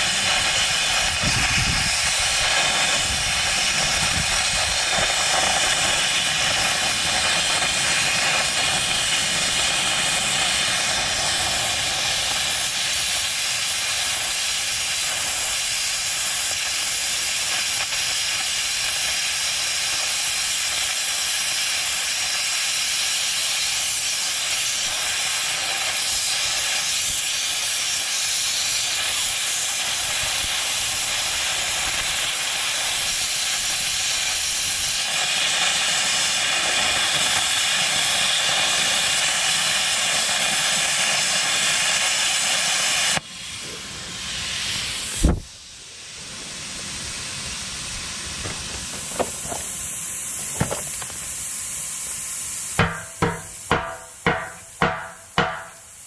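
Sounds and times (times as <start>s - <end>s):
plasma cutter hissing: 0.0s - 56.0s.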